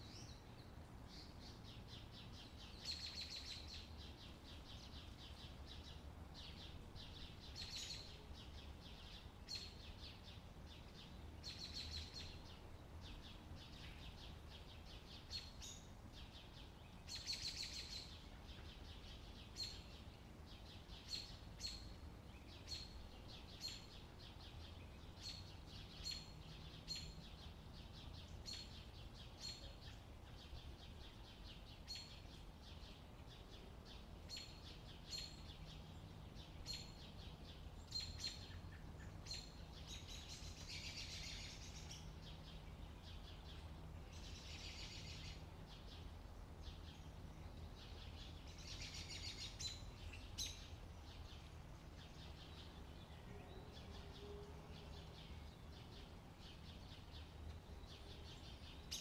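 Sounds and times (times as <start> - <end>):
songbird trills and chirps: 0.0 - 59.0.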